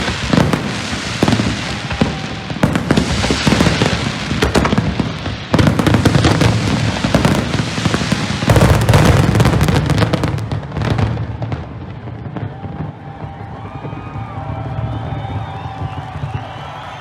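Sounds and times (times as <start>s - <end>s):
firework bangs and crackling: 0.0s - 17.0s.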